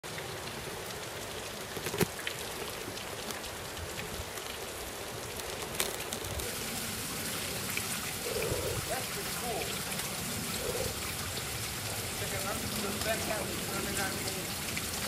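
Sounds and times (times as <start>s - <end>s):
falling water hiss: 0.2s - 15.0s.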